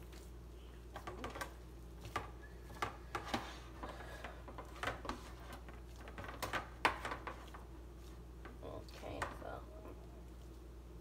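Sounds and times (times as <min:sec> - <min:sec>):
hands squishing meat mixture: 0:00.0 - 0:11.0.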